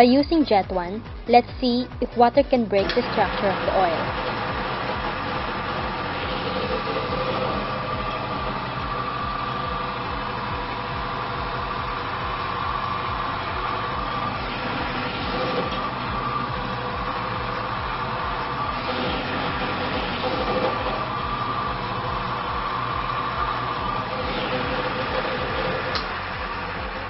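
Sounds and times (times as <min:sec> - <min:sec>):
metal parts rubbing whine: 0:00.0 - 0:27.0
motor hum: 0:00.0 - 0:27.0.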